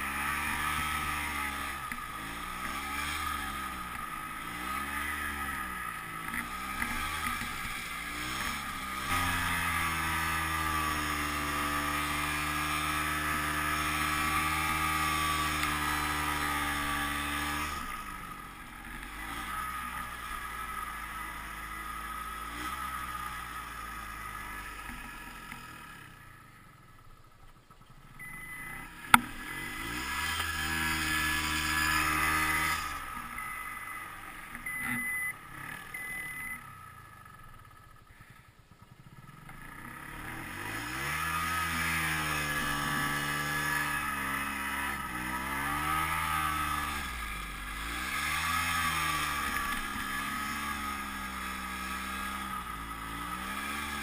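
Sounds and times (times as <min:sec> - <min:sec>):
snowmobile engine revving: 0:00.0 - 0:26.2, 0:28.2 - 0:36.6, 0:39.1 - 0:54.0.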